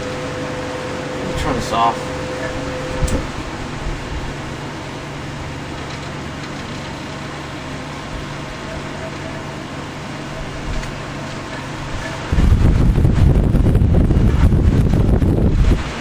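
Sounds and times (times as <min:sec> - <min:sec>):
table fan humming: 0:00.0 - 0:16.0.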